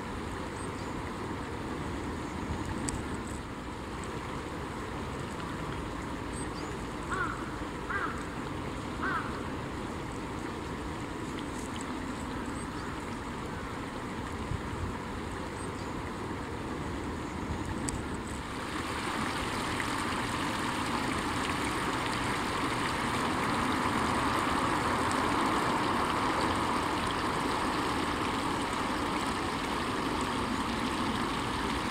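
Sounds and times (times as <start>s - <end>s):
stream water rushing over weir: 0.0s - 31.9s.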